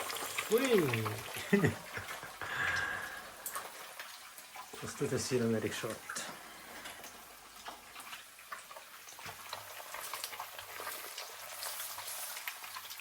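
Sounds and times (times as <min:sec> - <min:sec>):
food sizzling in a pan: 0:00.0 - 0:13.0
small crackles: 0:00.0 - 0:13.0.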